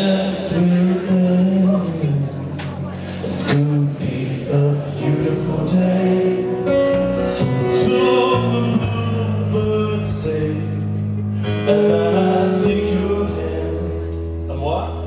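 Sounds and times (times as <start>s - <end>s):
live band with piano: 0.0s - 15.0s
man singing: 0.0s - 15.0s.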